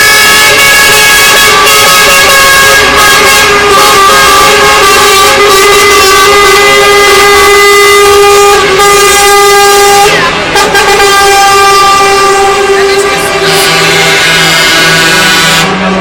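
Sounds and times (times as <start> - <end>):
truck air horns blaring: 0.0 - 16.0.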